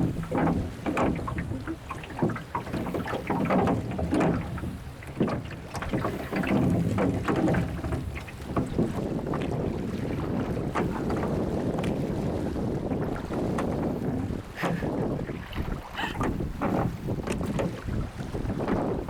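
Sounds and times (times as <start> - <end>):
water splashing around a boat: 0.0 - 19.0
wind rumble on microphone: 0.0 - 19.0.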